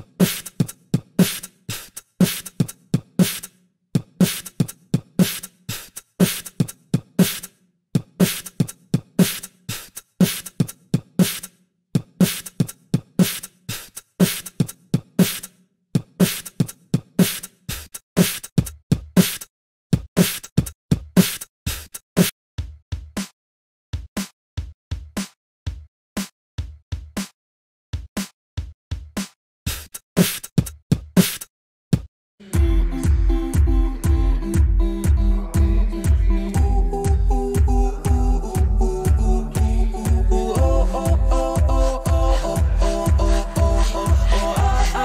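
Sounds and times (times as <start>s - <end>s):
beatboxed drum beat: 0.0s - 23.4s, 24.0s - 27.4s, 28.0s - 45.0s.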